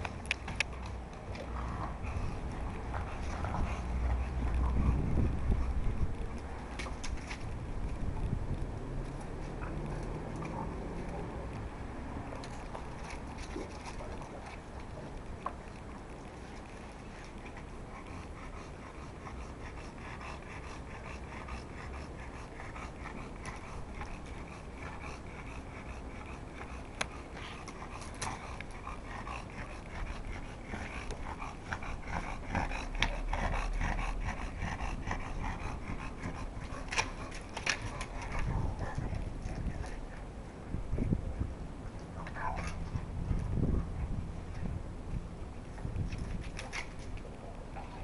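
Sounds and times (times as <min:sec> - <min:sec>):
dogs panting: 0:00.0 - 0:08.3, 0:09.0 - 0:41.2.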